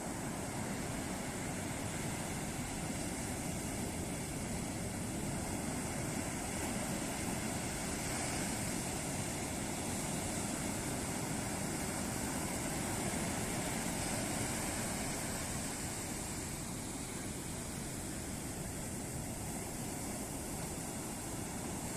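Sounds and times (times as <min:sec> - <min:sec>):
ocean surf breaking on beach: 0:00.0 - 0:21.9.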